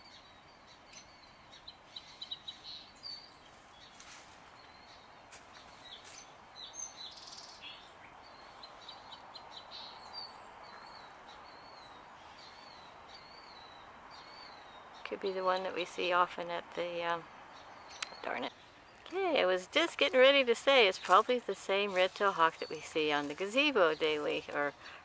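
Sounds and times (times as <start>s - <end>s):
outdoor background noise: 0.0s - 25.0s
small birds chirping: 0.0s - 25.0s.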